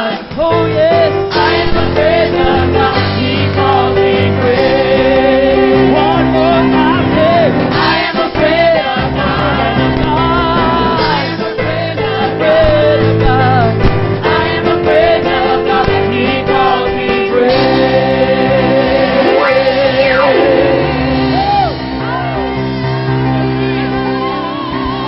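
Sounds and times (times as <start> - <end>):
gospel choir singing: 0.0 - 24.5
keyboard: 0.0 - 25.0
bass: 0.3 - 25.0.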